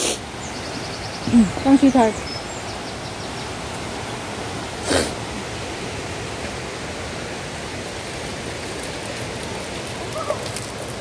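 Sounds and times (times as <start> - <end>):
fountain water falling: 0.0 - 11.0.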